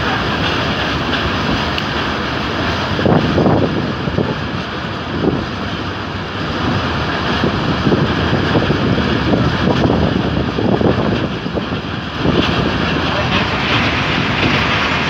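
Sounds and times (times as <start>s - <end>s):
train coaches rumbling on track: 0.0s - 15.0s
wind buffeting microphone: 0.0s - 15.0s.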